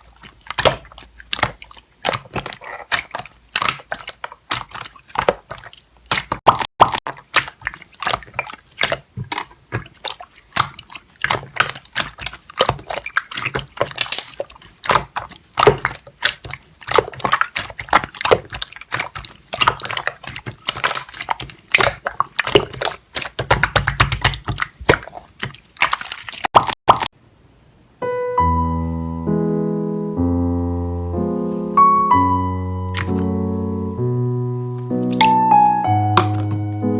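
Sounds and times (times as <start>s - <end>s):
slime squelching: 0.0s - 27.1s, 30.0s - 36.9s.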